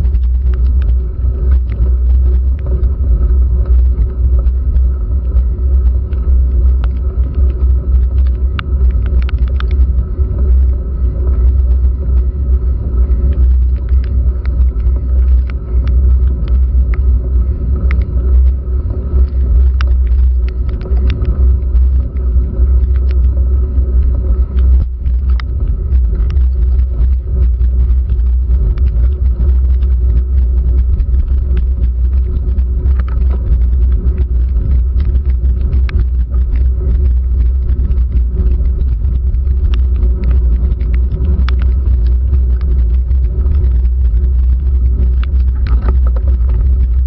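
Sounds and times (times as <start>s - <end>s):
bicycle riding rumble and wind: 0.0s - 47.0s
faint steady hum: 0.0s - 47.0s
raindrops ticking on camera: 0.0s - 47.0s.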